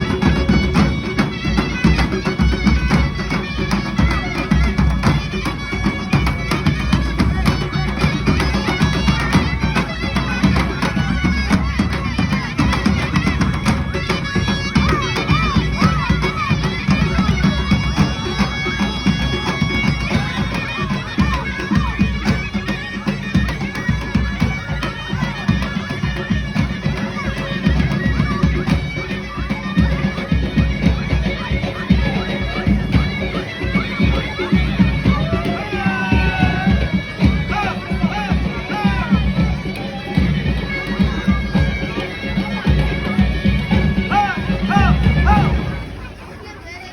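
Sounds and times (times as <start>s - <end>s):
reedy wind instrument melody: 0.0s - 46.9s.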